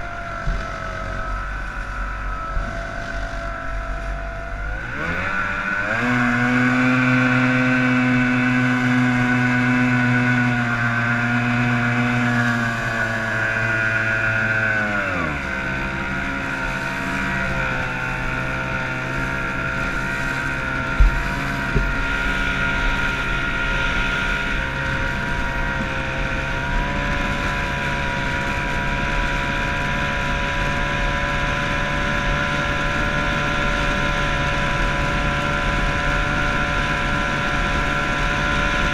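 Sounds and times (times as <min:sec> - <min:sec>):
outboard engine revving: 0:00.0 - 0:38.9.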